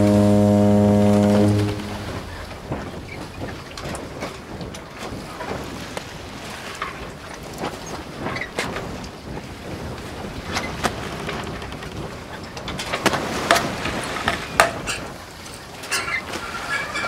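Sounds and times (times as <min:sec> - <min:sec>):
water washing: 0:00.0 - 0:17.0
wind: 0:00.0 - 0:17.0.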